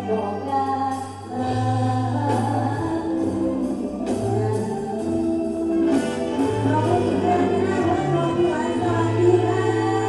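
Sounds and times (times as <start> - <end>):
band accompaniment: 0.0 - 10.0.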